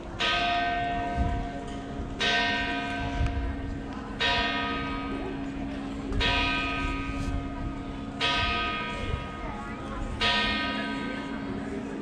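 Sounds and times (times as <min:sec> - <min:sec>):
church bell ringing: 0:00.1 - 0:12.0.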